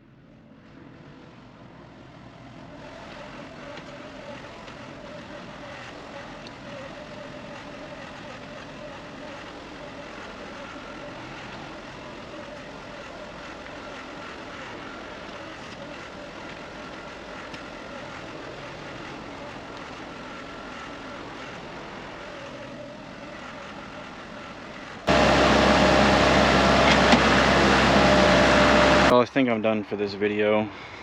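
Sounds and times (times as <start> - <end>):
skid steer engine running: 2.6 - 29.2.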